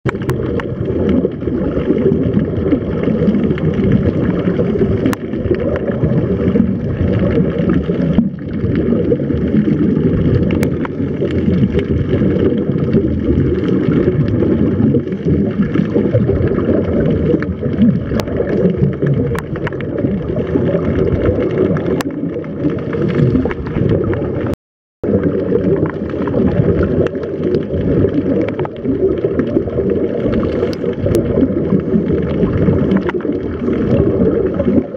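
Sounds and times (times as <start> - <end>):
regulator bubbles underwater: 0.0 - 34.9.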